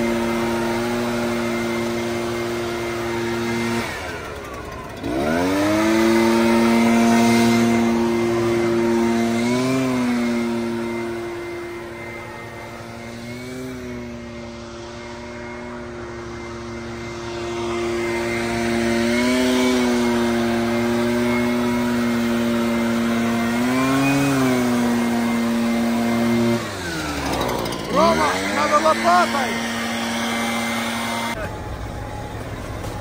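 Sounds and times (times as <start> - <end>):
vehicle engine revving: 0.0 - 33.0.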